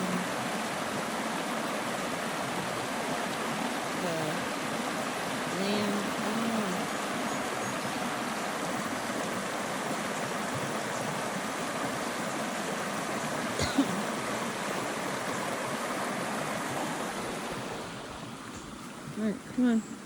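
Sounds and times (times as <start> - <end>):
creek water flowing over rocks: 0.0 - 20.0.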